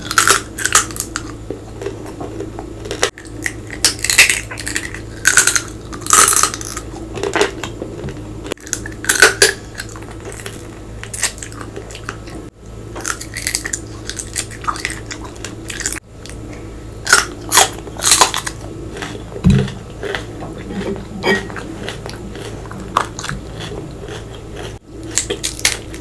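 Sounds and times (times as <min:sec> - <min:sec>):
crunching and chewing: 0:00.0 - 0:26.0.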